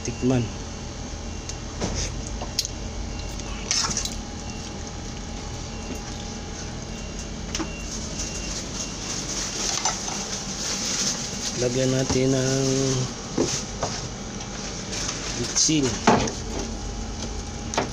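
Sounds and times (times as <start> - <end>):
machine hum: 0.0 - 17.9.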